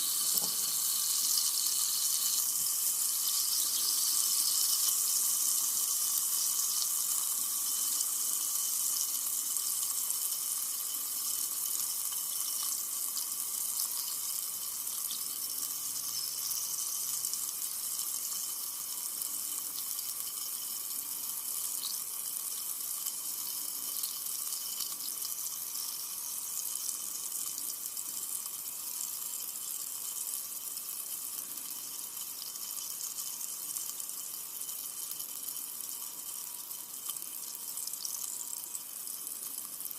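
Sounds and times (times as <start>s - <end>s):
soda fizzing: 0.0s - 39.9s.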